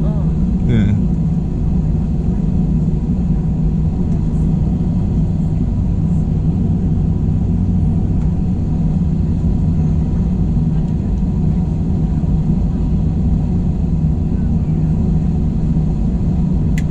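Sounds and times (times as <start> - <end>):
airplane cabin engine rumble: 0.0 - 16.9.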